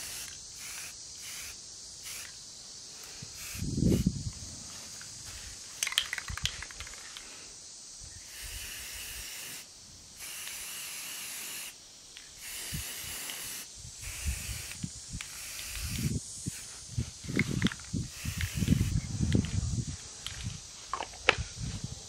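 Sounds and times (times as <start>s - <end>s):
spray paint can hissing: 0.0s - 7.4s, 8.2s - 19.7s.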